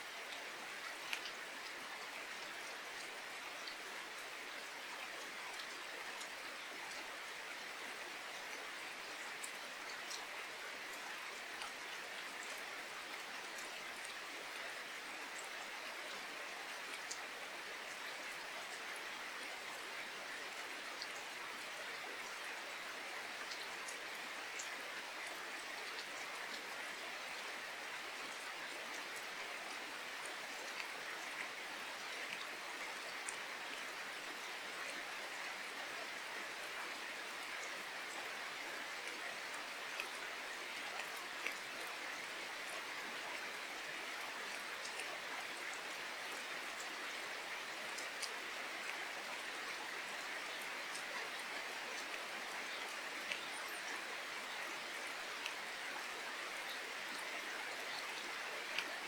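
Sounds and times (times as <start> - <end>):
raindrops ticking on surfaces: 0.0 - 59.0
steady rain hiss: 0.0 - 59.0.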